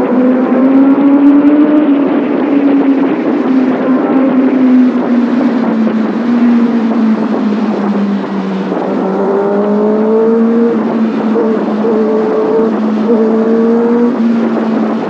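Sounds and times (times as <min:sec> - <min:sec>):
high tone rising in pitch: 0:00.0 - 0:15.0
motorcycle engine running: 0:00.0 - 0:15.0
wind noise: 0:00.0 - 0:15.0.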